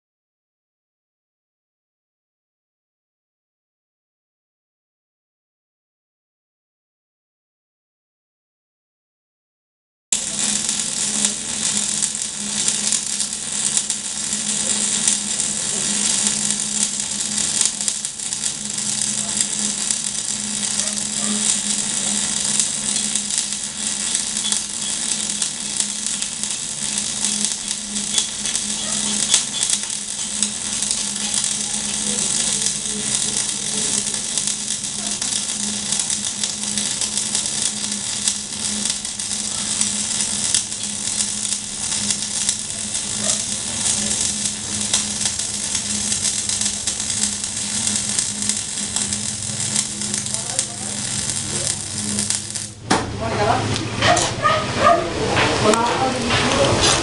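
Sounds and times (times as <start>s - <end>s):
welding arc crackling hiss: 10.1s - 57.0s.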